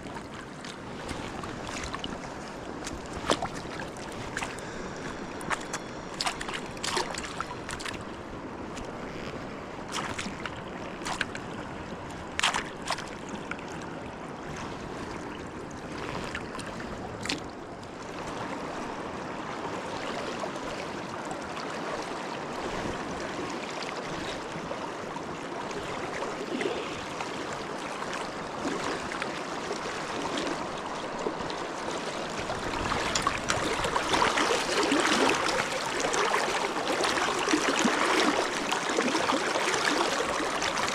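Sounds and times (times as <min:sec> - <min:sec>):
river water rushing and splashing: 0:00.0 - 0:40.9.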